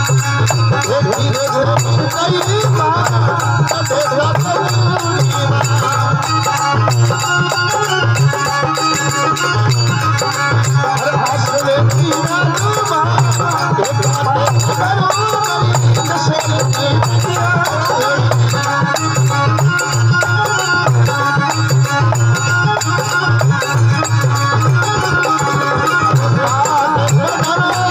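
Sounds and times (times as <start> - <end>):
steady drum beat: 0.0 - 27.9
wavering instrumental melody: 0.0 - 27.9.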